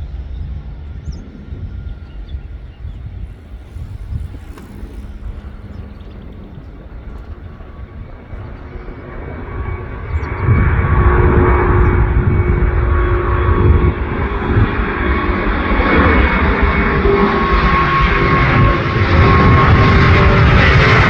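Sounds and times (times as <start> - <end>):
jet engine roar: 0.0 - 21.0
steady whining tones: 0.0 - 21.0.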